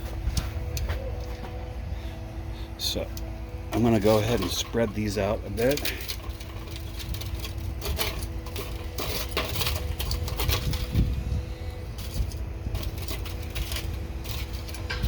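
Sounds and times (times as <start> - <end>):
charcoal briquettes clinking: 0.0 - 15.0
low background rumble: 0.0 - 15.0.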